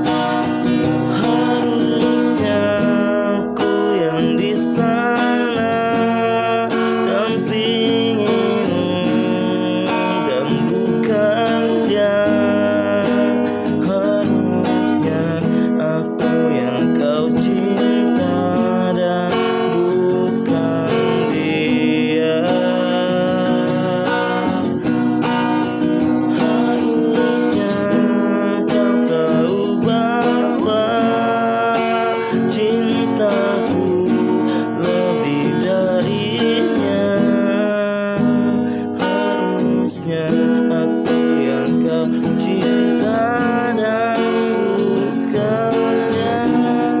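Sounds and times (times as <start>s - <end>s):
acoustic guitar strumming: 0.0s - 47.0s
person singing: 0.0s - 47.0s.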